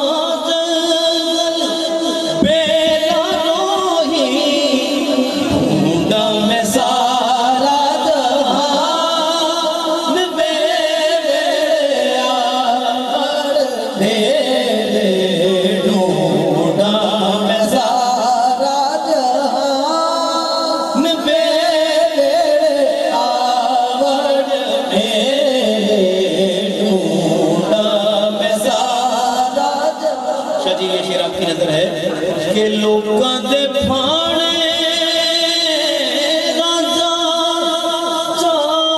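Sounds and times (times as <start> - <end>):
man singing devotional chant: 0.0 - 38.9.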